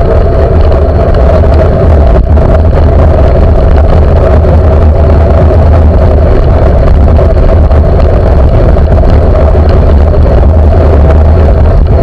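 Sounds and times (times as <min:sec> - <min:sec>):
road traffic: 0:00.0 - 0:12.0
wind rumble on microphone: 0:00.0 - 0:12.0.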